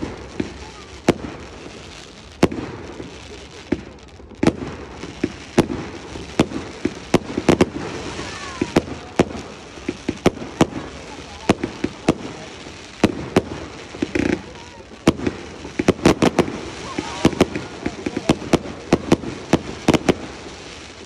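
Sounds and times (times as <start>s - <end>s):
fireworks bangs: 0.0s - 21.0s
steady background hiss: 0.0s - 21.0s.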